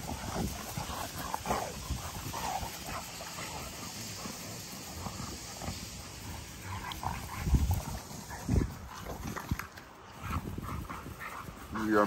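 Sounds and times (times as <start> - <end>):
dogs play-fighting: 0.0 - 12.0.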